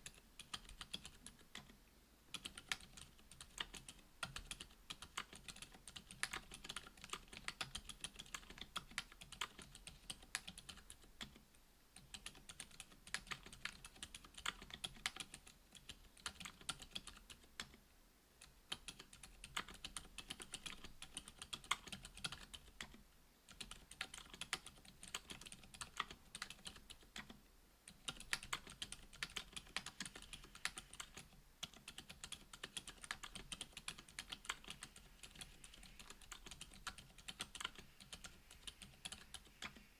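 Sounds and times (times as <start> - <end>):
mechanical keyboard typing: 0.0 - 11.4, 12.0 - 17.8, 18.4 - 39.8.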